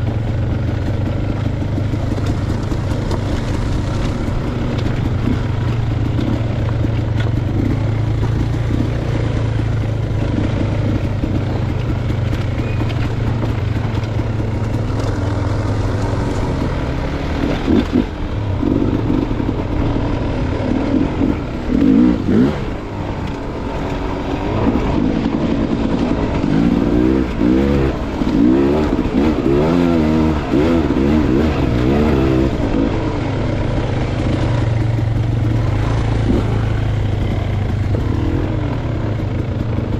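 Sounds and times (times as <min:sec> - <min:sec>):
dirt bike engine revving: 0:00.9 - 0:39.9.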